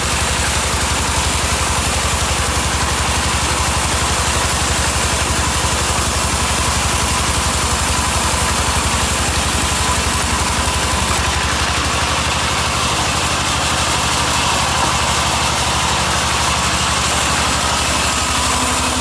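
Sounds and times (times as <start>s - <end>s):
sawmill machinery throbbing: 0.0s - 19.0s.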